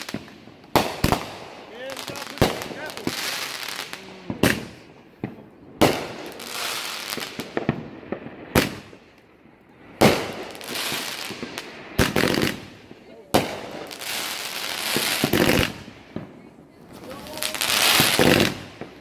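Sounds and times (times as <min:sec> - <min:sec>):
fireworks hissing: 0:00.0 - 0:09.2, 0:09.8 - 0:19.0
fireworks banging: 0:00.0 - 0:19.0.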